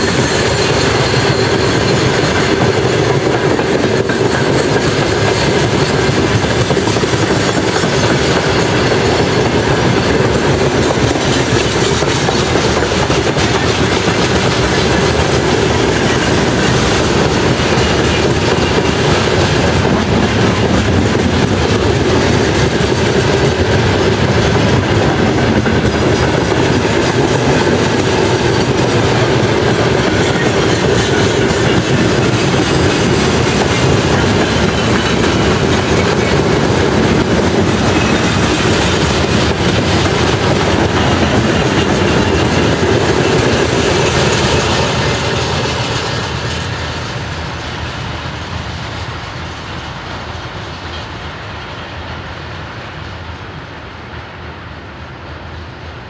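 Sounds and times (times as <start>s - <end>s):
train wagons rolling over rail joints: 0.0s - 53.0s.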